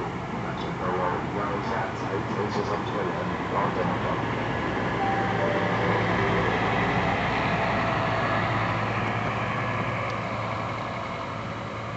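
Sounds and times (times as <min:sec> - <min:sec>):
bus diesel engine humming: 0:00.0 - 0:11.9.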